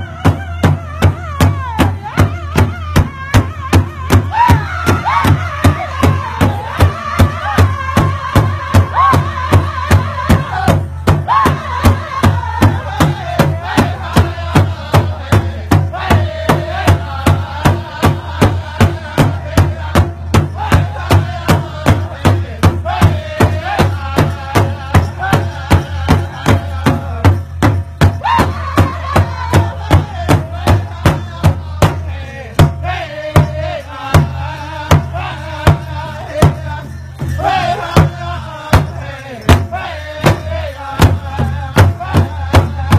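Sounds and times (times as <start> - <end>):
group of voices singing: 0.0 - 42.9
steady drumbeat: 0.0 - 42.9.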